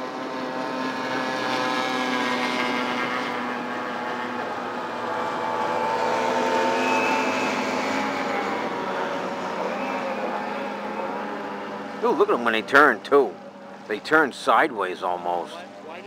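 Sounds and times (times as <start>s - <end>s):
outboard motors whining: 0.0s - 16.0s.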